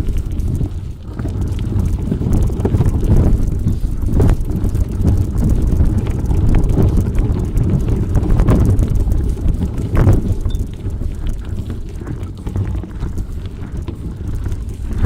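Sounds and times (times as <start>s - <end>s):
bicycle rattling over rough ground: 0.0s - 15.0s
wind buffeting microphone: 0.0s - 15.0s.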